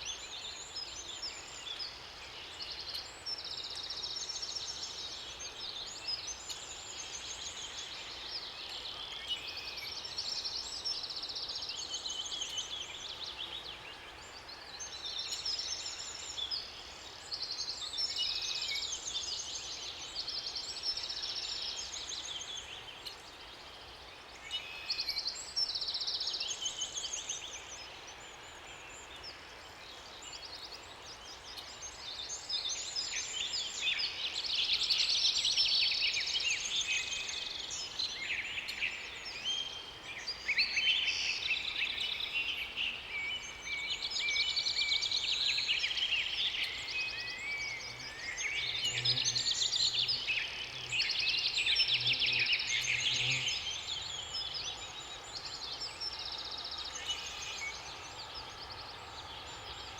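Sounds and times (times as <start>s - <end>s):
songbirds singing trills: 0.0s - 59.9s.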